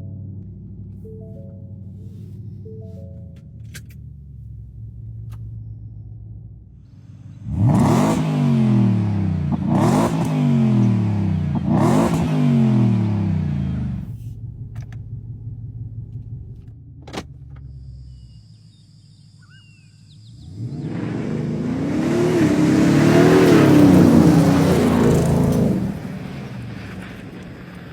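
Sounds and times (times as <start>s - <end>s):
truck engine idling and revving: 0.0s - 27.9s.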